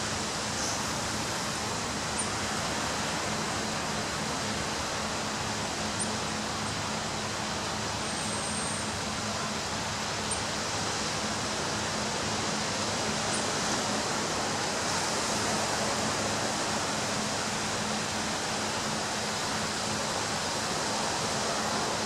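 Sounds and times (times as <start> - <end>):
waves breaking on a beach: 0.0 - 22.0.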